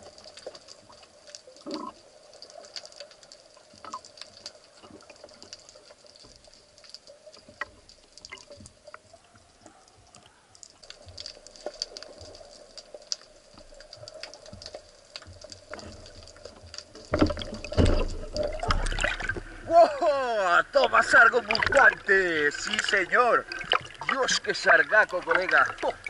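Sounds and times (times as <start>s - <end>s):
underwater crackle of clicks: 0.0s - 19.7s, 20.7s - 26.0s.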